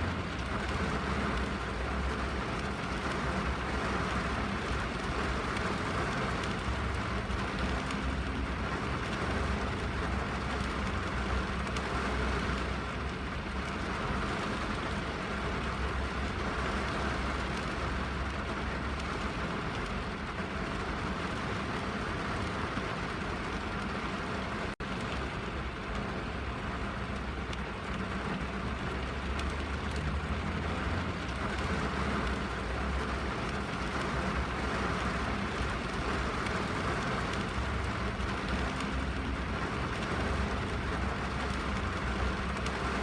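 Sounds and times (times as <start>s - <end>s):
rain on a car roof: 0.0s - 43.0s.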